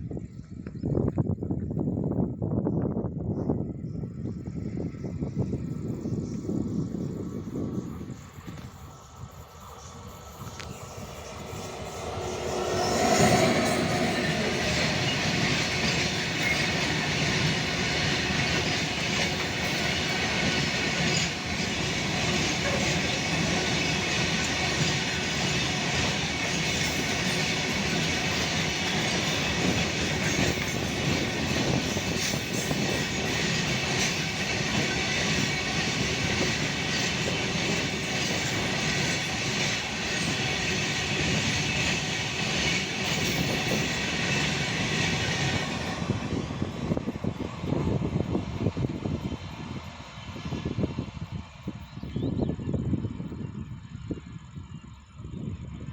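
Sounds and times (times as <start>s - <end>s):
freight train rumbling past: 0.0s - 55.9s.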